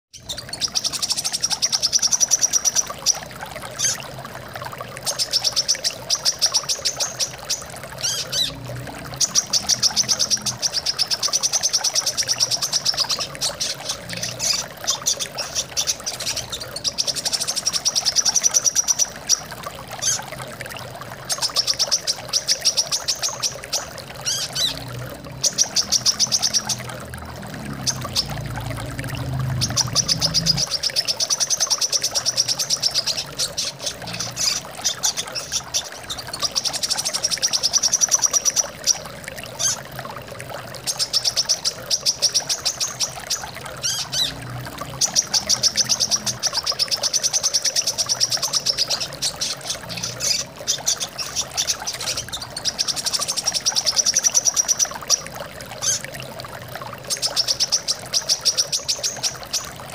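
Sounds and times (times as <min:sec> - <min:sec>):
running water: 0:00.1 - 0:59.9.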